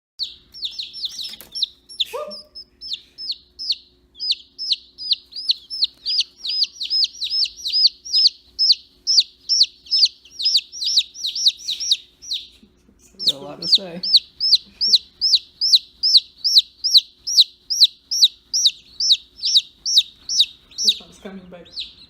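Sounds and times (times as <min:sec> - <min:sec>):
baby chicks peeping: 0:00.2 - 0:22.0.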